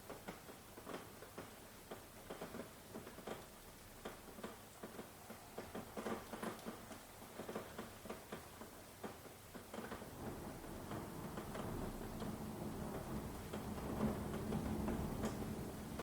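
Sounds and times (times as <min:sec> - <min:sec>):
rain drops tapping: 0:00.0 - 0:16.0
rain hiss: 0:00.0 - 0:16.0.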